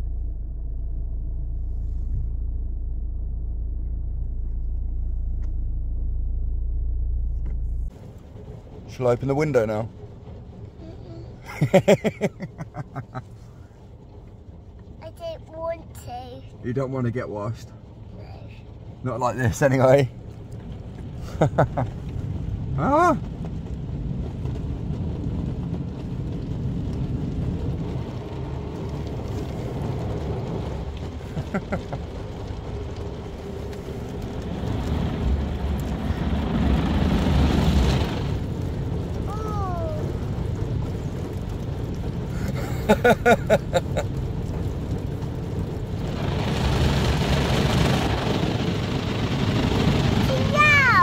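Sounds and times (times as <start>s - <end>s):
car wash rumbling: 0.0s - 51.0s.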